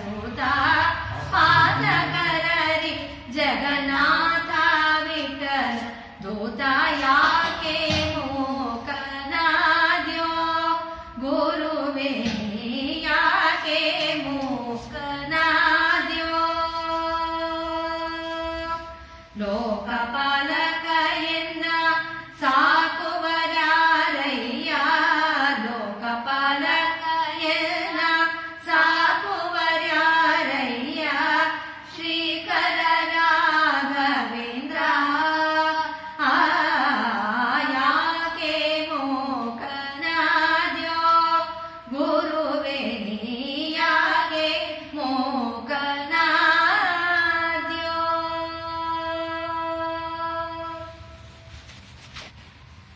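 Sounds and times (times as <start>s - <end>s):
woman singing devotional song: 0.0s - 52.3s.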